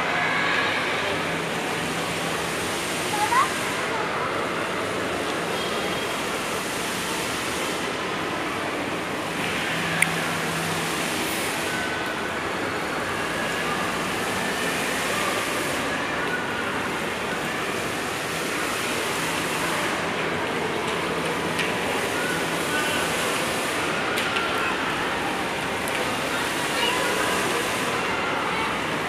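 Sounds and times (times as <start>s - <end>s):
shopping mall hubbub: 0.0s - 29.0s.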